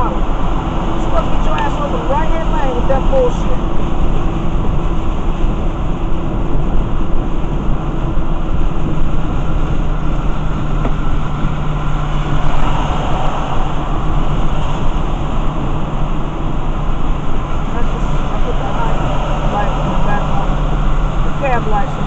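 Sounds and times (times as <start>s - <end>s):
low hum: 0.0s - 22.0s
rain on windshield: 0.0s - 22.0s
tyres on wet road: 0.0s - 22.0s.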